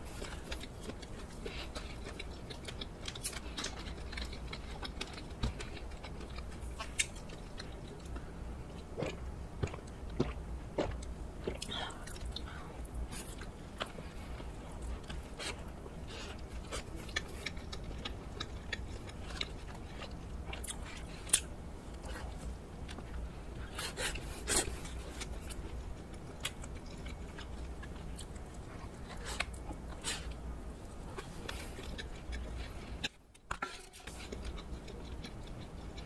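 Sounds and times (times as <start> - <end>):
crisp crunches of chewing: 0.1 - 33.2.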